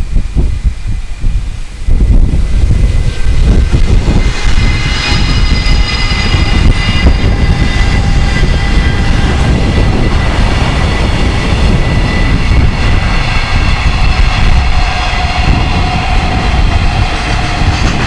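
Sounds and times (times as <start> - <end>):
freight train rumble: 0.0 - 18.0
wind buffeting microphone: 0.0 - 18.0.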